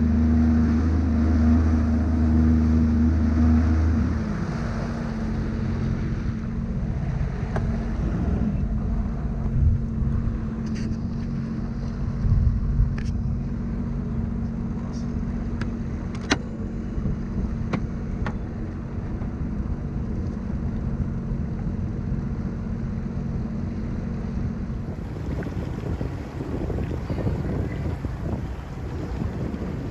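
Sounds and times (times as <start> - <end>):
watercraft engine running: 0.0 - 29.9.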